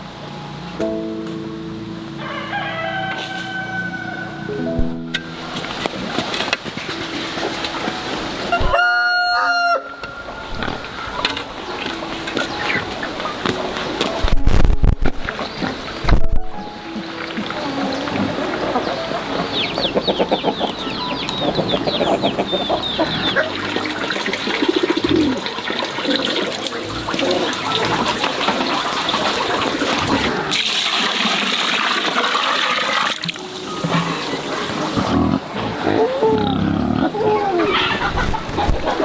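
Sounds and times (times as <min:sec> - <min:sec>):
chickens clucking: 0:02.2 - 0:30.6, 0:32.6 - 0:39.0.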